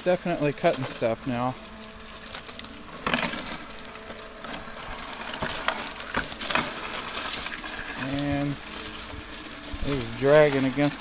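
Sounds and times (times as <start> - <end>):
faint motor hum: 0.0 - 11.0
mower blade crunching grass: 0.0 - 11.0.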